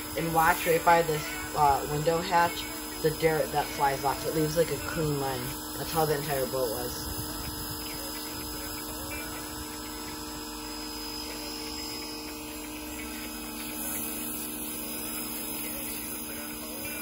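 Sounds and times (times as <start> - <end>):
pressure washer motor humming: 0.0 - 17.0
water jet hissing: 0.0 - 17.0.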